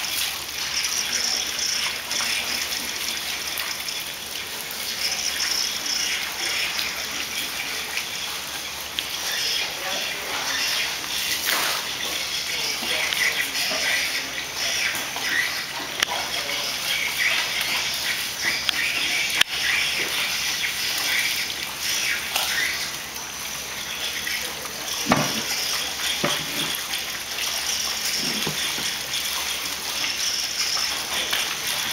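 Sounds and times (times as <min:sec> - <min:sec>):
water splashing and sloshing: 0:00.0 - 0:31.9.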